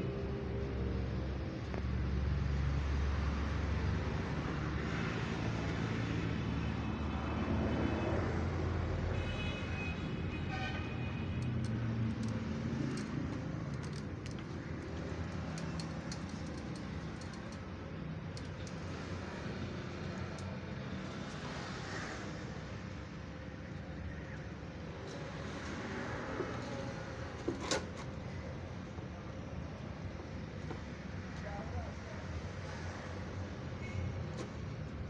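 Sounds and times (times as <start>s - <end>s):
low rumble of vehicle: 0.0s - 35.0s.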